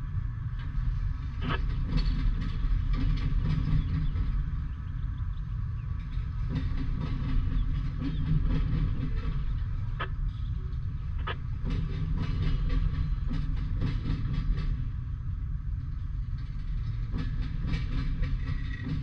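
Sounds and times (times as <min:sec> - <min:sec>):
train wheels rumbling on rail: 0:00.0 - 0:19.0
wheels clicking over rail joints: 0:00.0 - 0:19.0.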